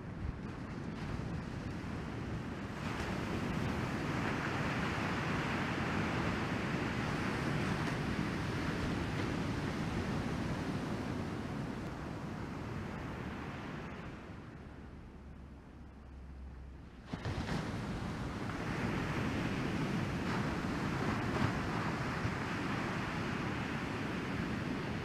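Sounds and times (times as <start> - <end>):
ocean surf washing onto beach: 0.0 - 25.0
wind on microphone: 0.0 - 25.0.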